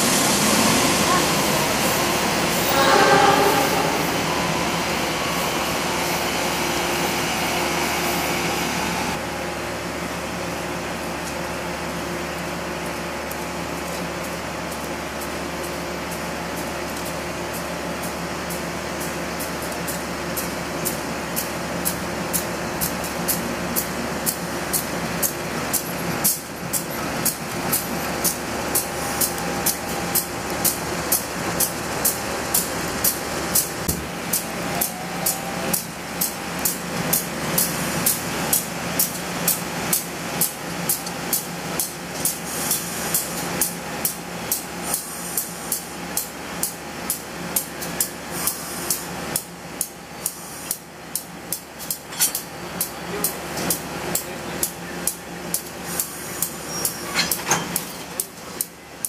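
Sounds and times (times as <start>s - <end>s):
locomotive engine humming: 0.0s - 48.4s.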